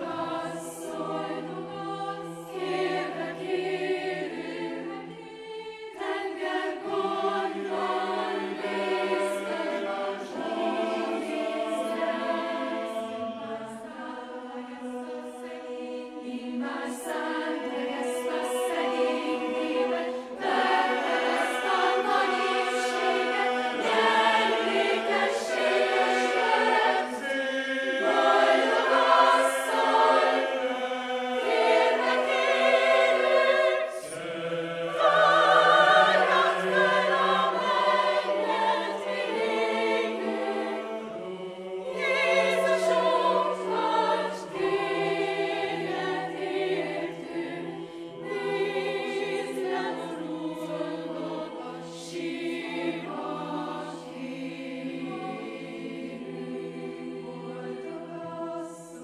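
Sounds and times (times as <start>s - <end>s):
choir singing held chords: 0.0s - 59.0s.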